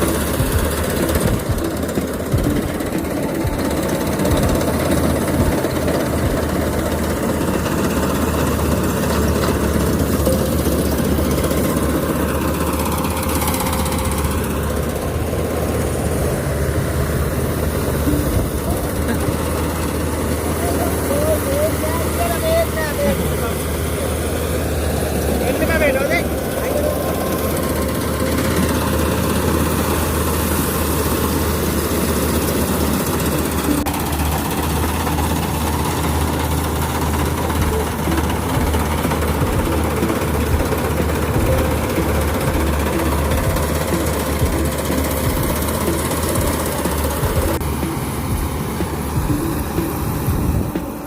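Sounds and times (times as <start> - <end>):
combine harvester engine running: 0.0 - 51.0.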